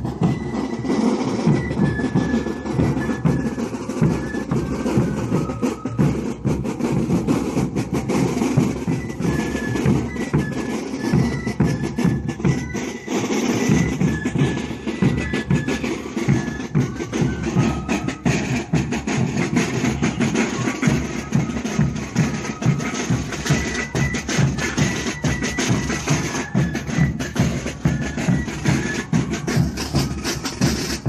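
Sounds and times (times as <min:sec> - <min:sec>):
thin high melody: 0:00.0 - 0:31.0.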